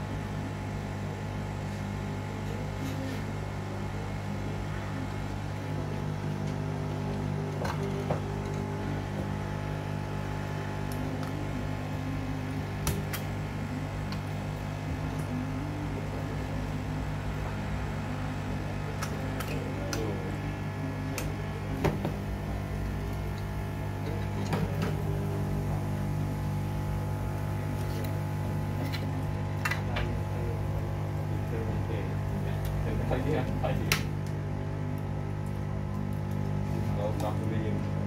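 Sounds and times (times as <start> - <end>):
hot air gun blower humming: 4.4 - 35.0.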